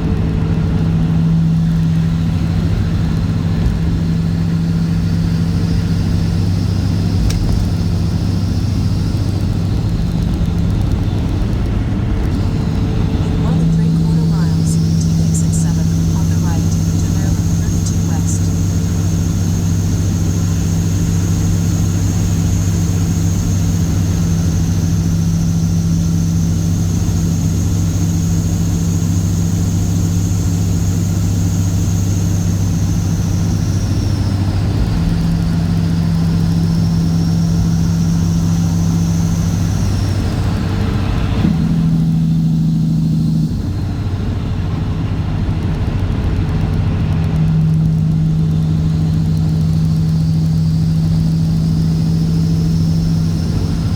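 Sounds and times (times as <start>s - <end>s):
high whine: 0.0s - 45.0s, 46.6s - 53.9s
diesel truck engine running: 0.0s - 53.9s.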